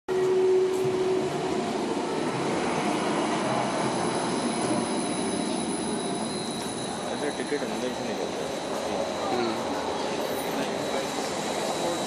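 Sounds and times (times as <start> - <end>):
tram rumbling on rails: 0.1 - 12.0.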